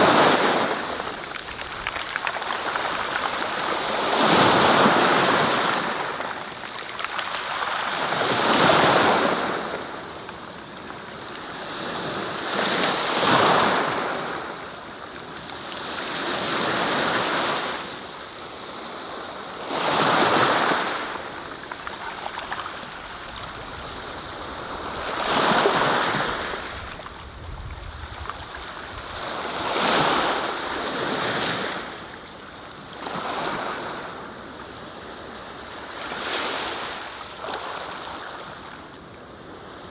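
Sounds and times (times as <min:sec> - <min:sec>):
sea waves washing in: 0:00.0 - 0:32.3.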